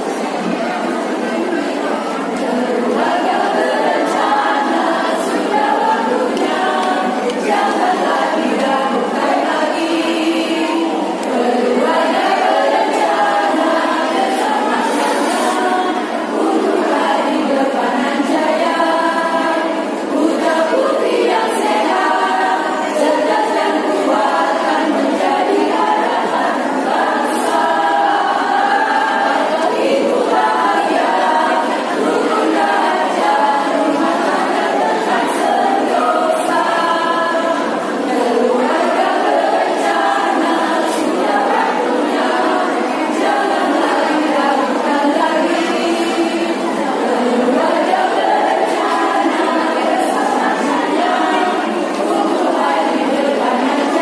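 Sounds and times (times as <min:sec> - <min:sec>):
women's choir singing: 0:00.0 - 0:54.0.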